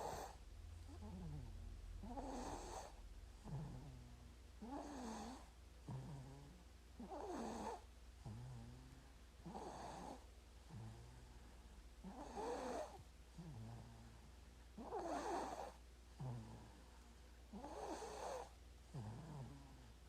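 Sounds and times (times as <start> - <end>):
baby snoring: 0.0 - 11.3, 12.0 - 14.1, 14.8 - 16.8, 17.5 - 19.9
steady low hum: 0.0 - 20.0.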